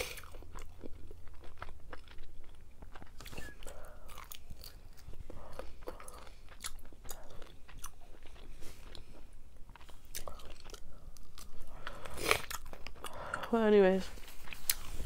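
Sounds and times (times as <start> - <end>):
person chewing: 0.0 - 13.6, 14.2 - 15.0.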